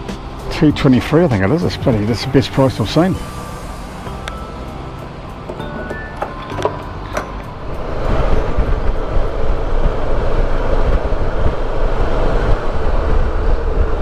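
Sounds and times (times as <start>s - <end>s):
rushing wind noise: 0.0s - 14.0s.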